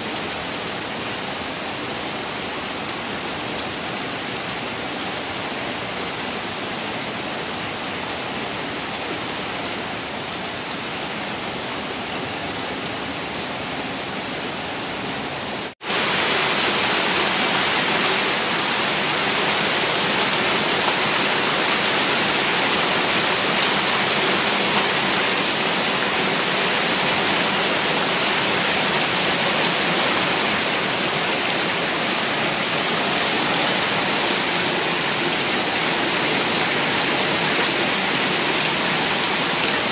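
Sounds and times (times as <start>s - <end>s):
rain water rushing down steps: 0.0s - 39.9s.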